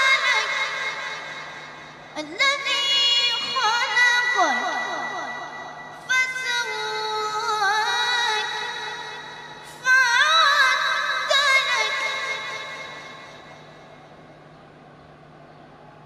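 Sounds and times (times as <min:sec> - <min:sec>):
boy chanting recitation: 0:00.0 - 0:14.0.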